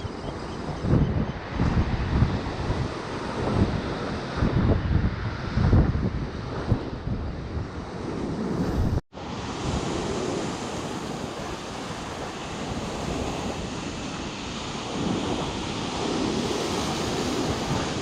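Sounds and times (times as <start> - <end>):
waves breaking on shore: 0.0 - 18.0
wind buffeting microphone: 0.0 - 18.0.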